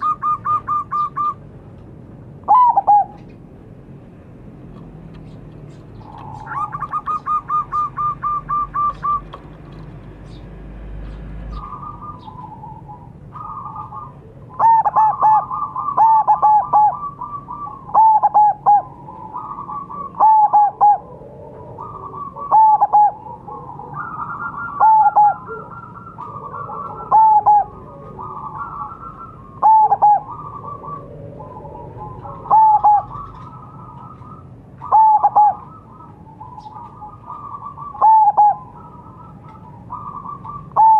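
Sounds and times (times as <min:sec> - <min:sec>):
dove cooing: 0:00.0 - 0:01.6, 0:02.4 - 0:03.4, 0:05.7 - 0:10.4, 0:11.4 - 0:40.9
soft bird calls: 0:00.0 - 0:03.5, 0:04.7 - 0:40.9.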